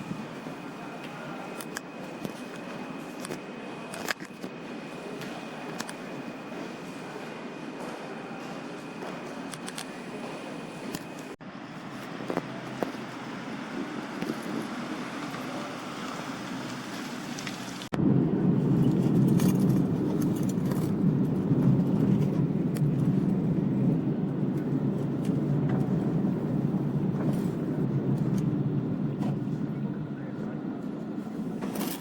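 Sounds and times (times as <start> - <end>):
train running low rumble: 0.0 - 32.0.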